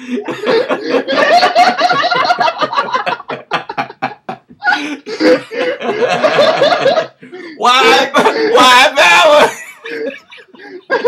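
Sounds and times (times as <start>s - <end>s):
men laughing hard: 0.0s - 11.0s.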